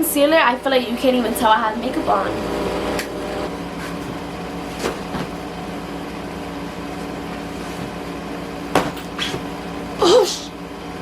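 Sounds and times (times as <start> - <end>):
droning hum: 0.0 - 11.0.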